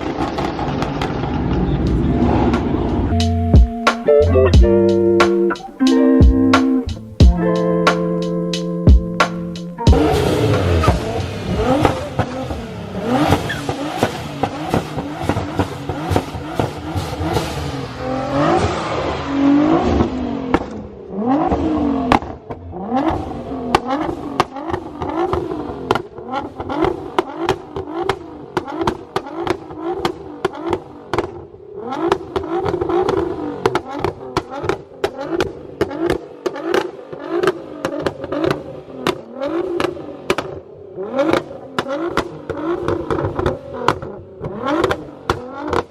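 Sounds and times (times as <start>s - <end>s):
exhaust pops crackling: 0.0s - 17.8s, 19.9s - 45.9s
car engine revving: 0.0s - 45.9s.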